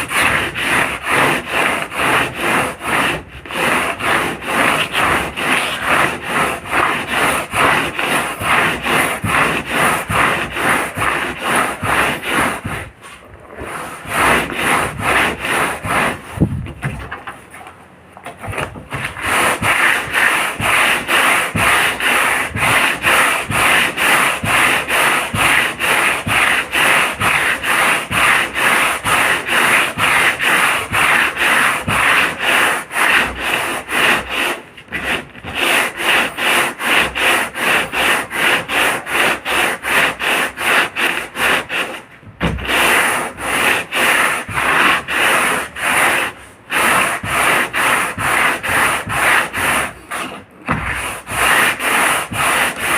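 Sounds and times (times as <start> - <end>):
hand sanding: 0.0 - 52.9.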